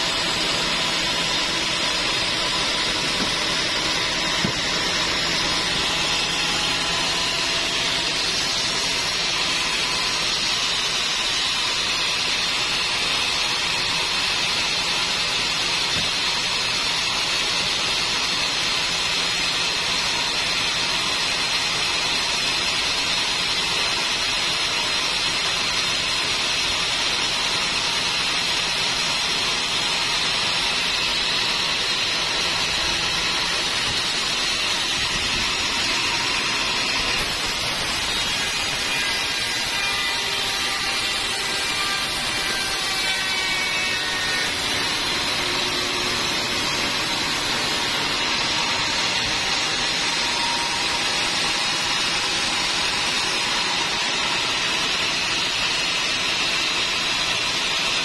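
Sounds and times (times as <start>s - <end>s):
band sawmill hissing: 0.0s - 18.2s, 26.8s - 58.0s.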